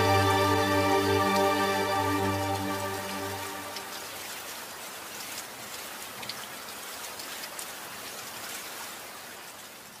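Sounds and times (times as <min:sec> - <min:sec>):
sharp rain drops: 0:00.0 - 0:10.0
steady rain falling: 0:00.0 - 0:10.0.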